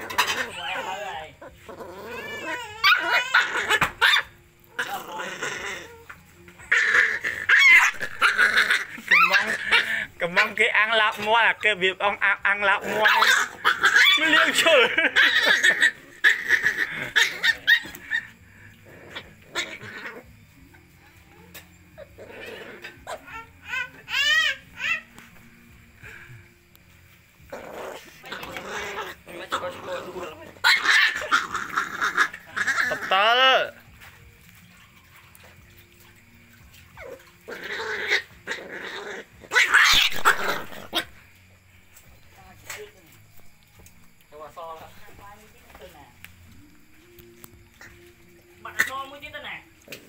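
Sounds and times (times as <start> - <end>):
puppies yipping: 0.0 - 26.3, 27.4 - 42.1.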